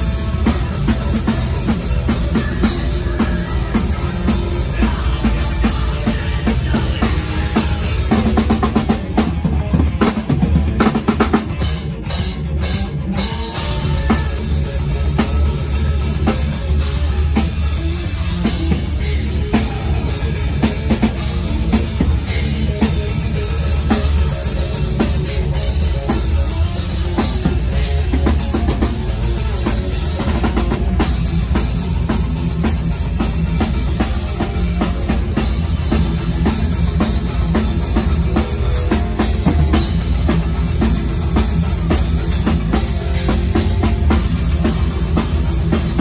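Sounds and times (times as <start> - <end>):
death metal band playing: 0.0 - 46.0
fast drum strikes: 0.0 - 46.0
heavy bass: 0.0 - 46.0.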